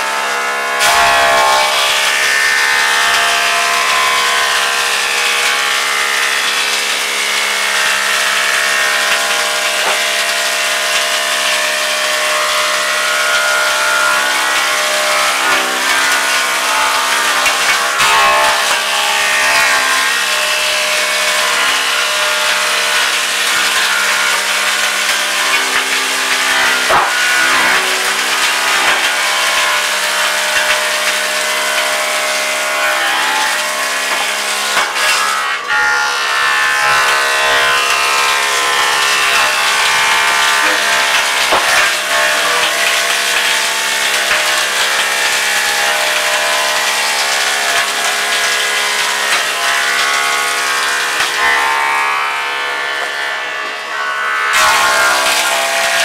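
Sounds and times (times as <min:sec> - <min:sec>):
wood planing machine running: 0:00.0 - 0:56.0.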